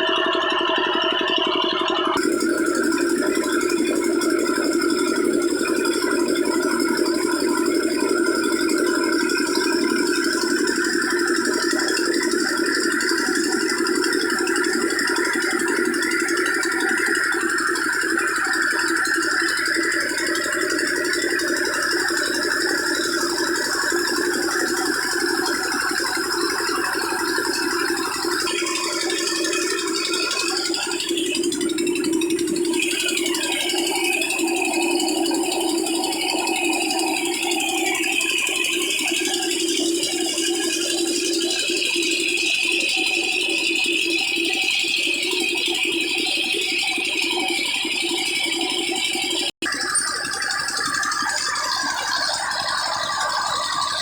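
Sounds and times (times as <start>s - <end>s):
diesel engine rattling: 0.0s - 54.0s.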